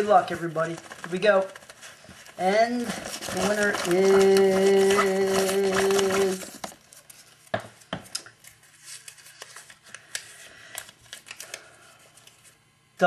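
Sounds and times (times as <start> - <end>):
paper rustling and crinkling: 0.0 - 7.5, 8.4 - 12.6.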